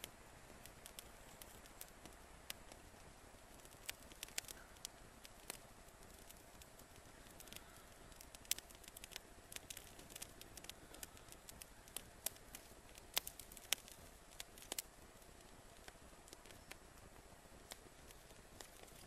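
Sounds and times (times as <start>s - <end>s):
faint steady hiss: 0.0s - 19.0s
twig fire crackling: 0.0s - 19.0s.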